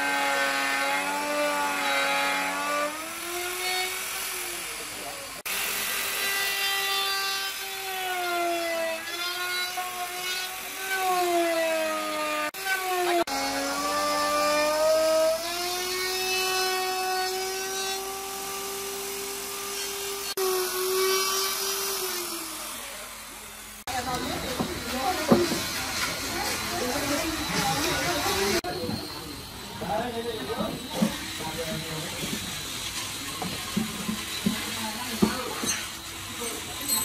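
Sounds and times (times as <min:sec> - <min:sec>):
router cutting wood: 0:00.0 - 0:37.0.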